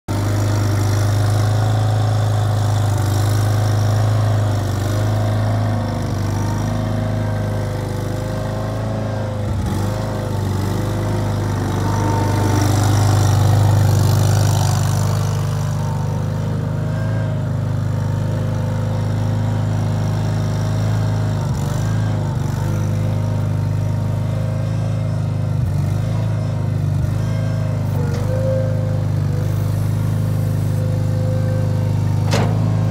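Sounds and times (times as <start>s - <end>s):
skid steer loader engine: 0.1s - 32.9s.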